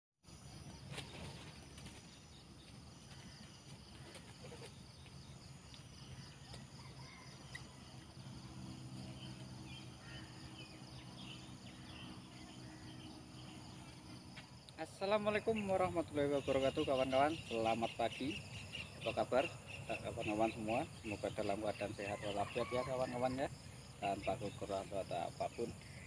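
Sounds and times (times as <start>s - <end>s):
high insect drone: 0.3s - 26.0s.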